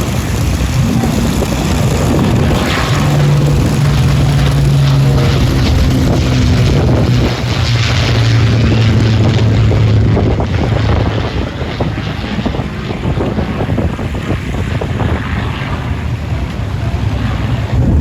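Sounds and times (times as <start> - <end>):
aircraft engines droning: 0.0 - 18.0
wind buffeting the microphone: 0.0 - 18.0.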